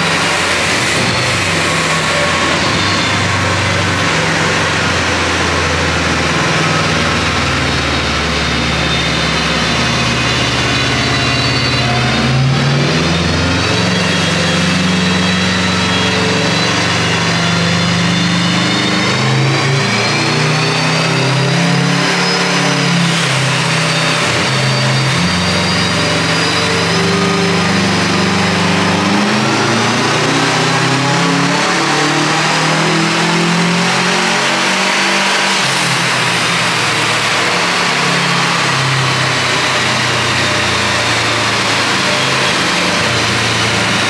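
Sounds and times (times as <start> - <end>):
high turbo whine: 0.0 - 44.0.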